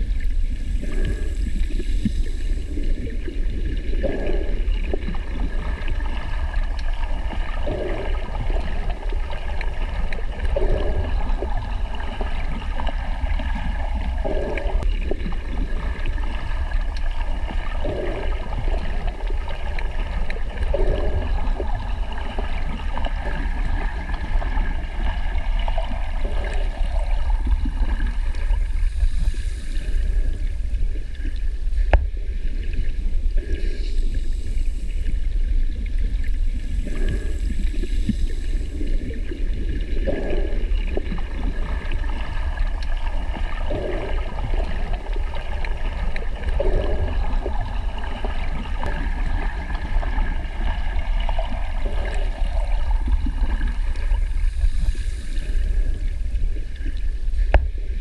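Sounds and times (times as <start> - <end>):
underwater low rumble: 0.0 - 58.0
water gurgling: 0.0 - 58.0.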